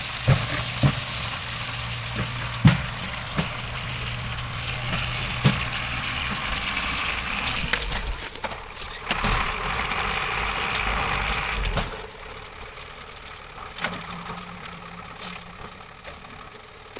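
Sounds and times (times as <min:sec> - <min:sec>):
winch engine running: 0:00.0 - 0:16.9.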